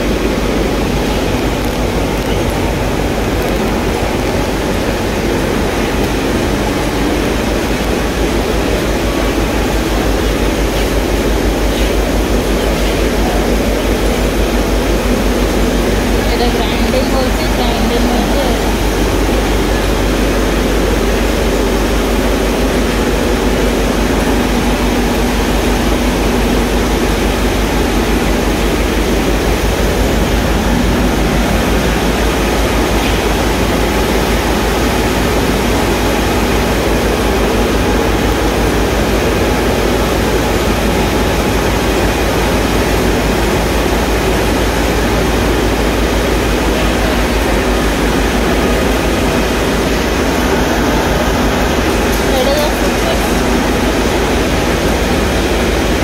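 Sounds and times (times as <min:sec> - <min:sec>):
factory machinery drone: 0:00.0 - 0:56.0.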